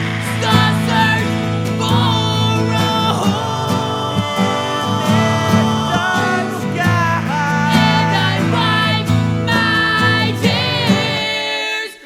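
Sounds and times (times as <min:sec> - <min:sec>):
rock band music with guitars: 0:00.0 - 0:11.2.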